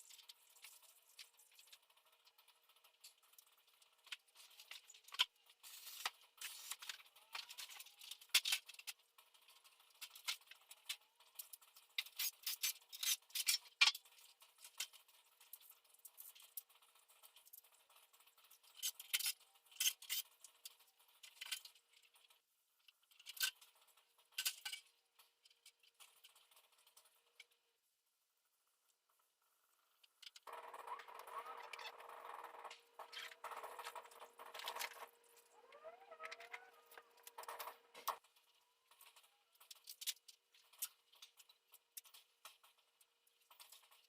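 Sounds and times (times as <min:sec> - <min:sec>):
small hard parts clicking and rattling: 0:00.0 - 0:27.7, 0:28.6 - 0:44.0.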